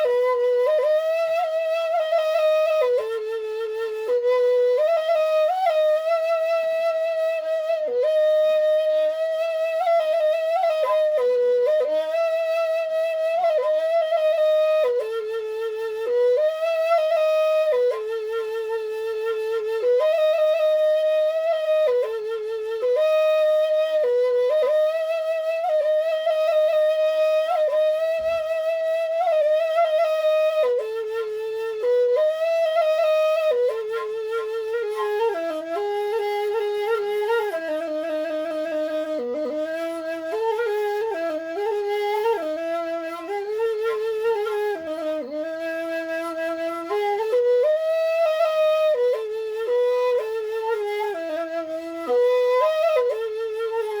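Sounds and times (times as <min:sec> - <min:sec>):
bamboo flute solo melody: 0:00.0 - 0:54.0.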